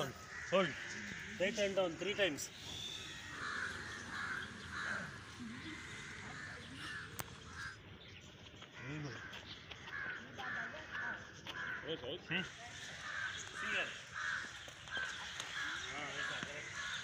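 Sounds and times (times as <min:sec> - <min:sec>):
crows cawing: 0:00.0 - 0:07.9, 0:08.6 - 0:17.0.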